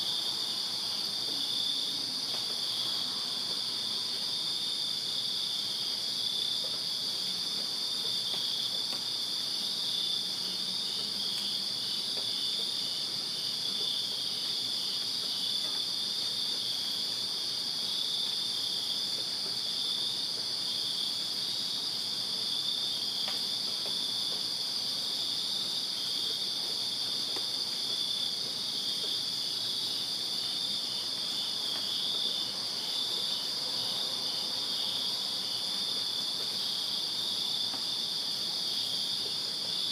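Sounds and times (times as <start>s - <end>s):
crickets pulsing chirps: 0.0s - 39.9s
crickets trilling: 0.0s - 39.9s.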